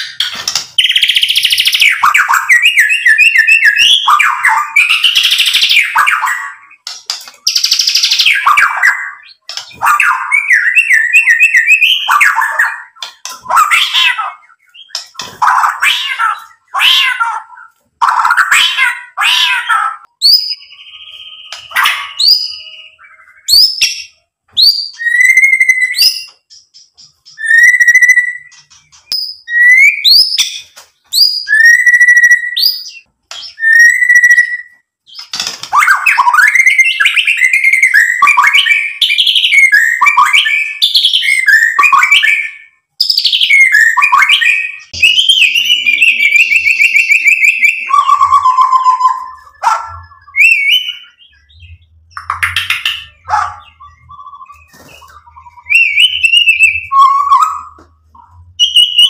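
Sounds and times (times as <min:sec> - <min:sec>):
bird whistling and singing: 0:00.0 - 0:59.0.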